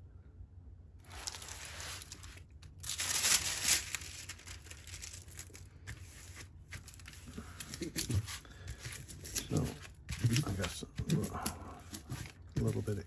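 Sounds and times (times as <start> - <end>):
plastic film crinkling and tearing: 1.0 - 13.0.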